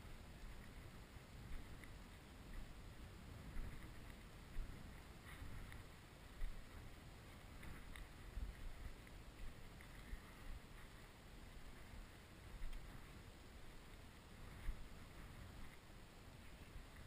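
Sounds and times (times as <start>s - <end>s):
wind rumble on microphone: 0.0s - 17.0s
footsteps through dry stubble: 0.2s - 17.0s.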